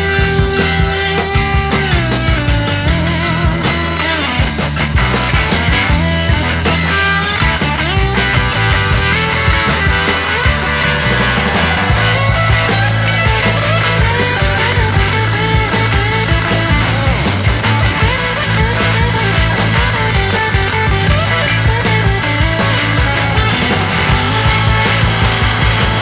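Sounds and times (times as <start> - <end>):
instrumental rock music: 0.0 - 26.0.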